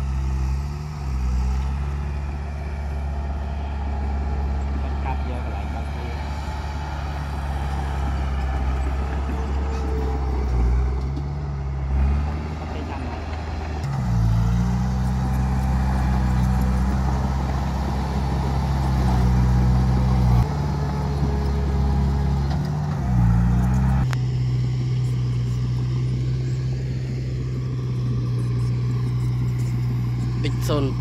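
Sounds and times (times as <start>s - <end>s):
excavator diesel engine under load: 0.0s - 31.0s.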